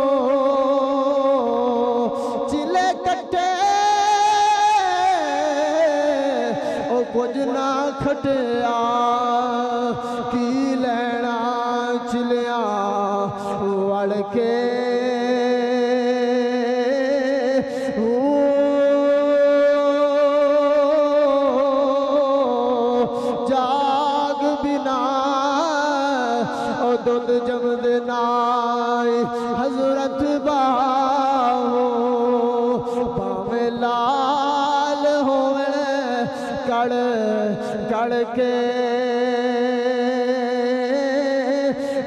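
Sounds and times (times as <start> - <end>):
man chanting: 0.0 - 42.0.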